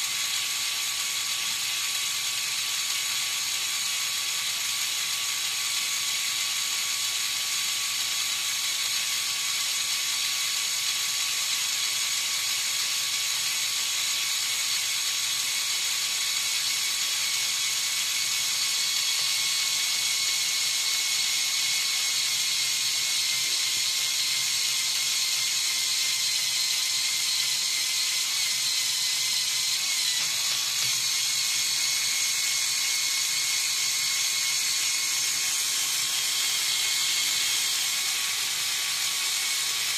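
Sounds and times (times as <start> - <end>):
toy motor and gears whirring: 0.0 - 39.9.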